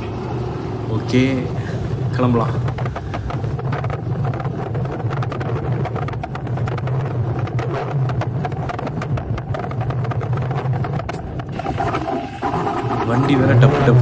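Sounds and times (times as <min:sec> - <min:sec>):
knocks and rattles: 0:00.0 - 0:14.0
motorcycle engine running: 0:00.0 - 0:14.0.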